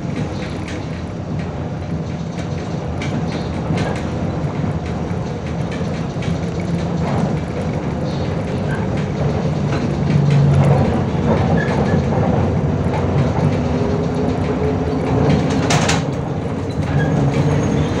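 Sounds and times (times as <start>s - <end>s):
bus engine hum: 0.0s - 18.0s
rattles from bus body: 0.0s - 18.0s
road noise: 0.0s - 18.0s.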